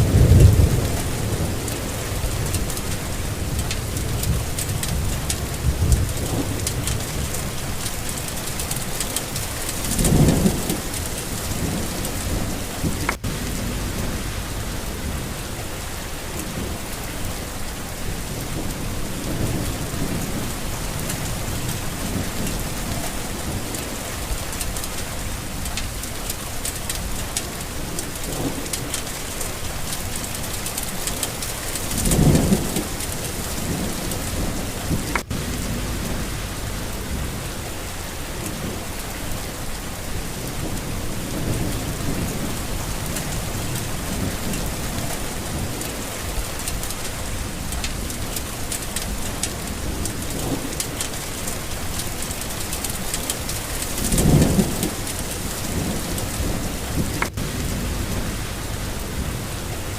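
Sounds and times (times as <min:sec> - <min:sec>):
low rolling thunder: 0:00.0 - 0:59.9
steady rain falling: 0:00.0 - 0:59.9.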